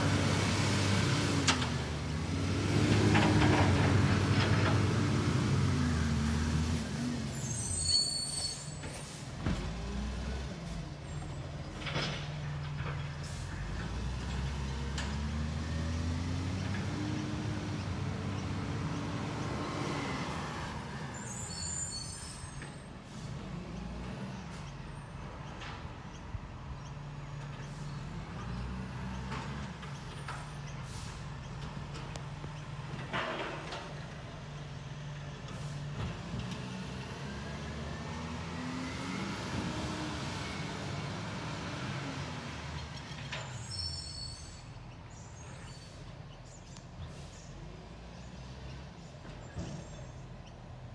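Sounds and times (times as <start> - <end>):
diesel truck engine accelerating: 0.0 - 50.9.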